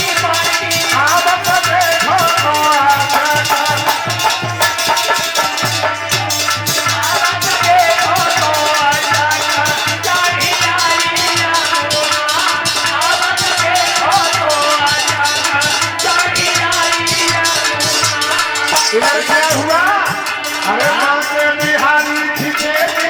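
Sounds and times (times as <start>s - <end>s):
drums beating: 0.0s - 23.0s.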